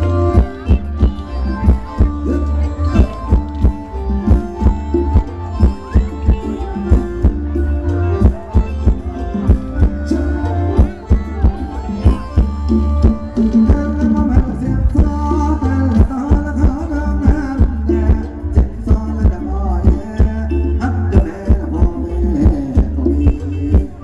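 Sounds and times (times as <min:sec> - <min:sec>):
live band dance music: 0:00.0 - 0:24.0.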